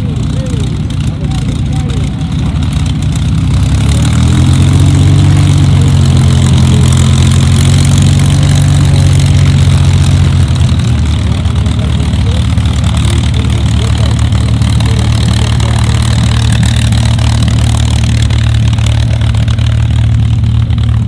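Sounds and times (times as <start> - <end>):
propeller aircraft engine taxiing: 0.0 - 21.0.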